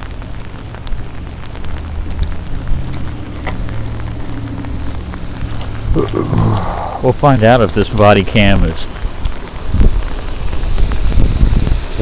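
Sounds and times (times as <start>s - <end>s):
heavy rain falling: 0.0s - 12.0s
rain drop ticks: 0.0s - 12.0s.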